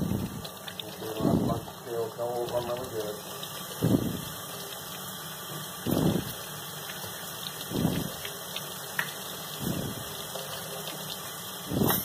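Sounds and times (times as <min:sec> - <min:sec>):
dull rush of water: 0:00.0 - 0:12.0
faucet running into metal sink: 0:00.0 - 0:12.0.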